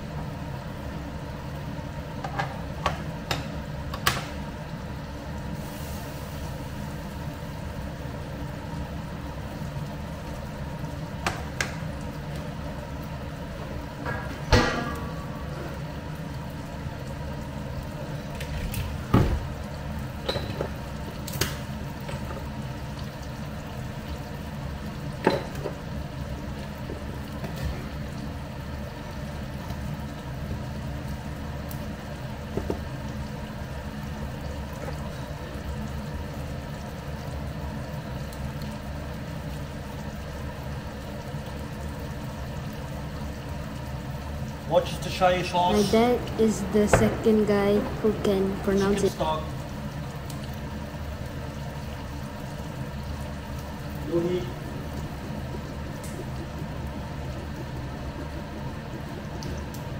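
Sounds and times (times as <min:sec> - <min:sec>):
broth bubbling in frying pan: 0:00.0 - 0:59.9.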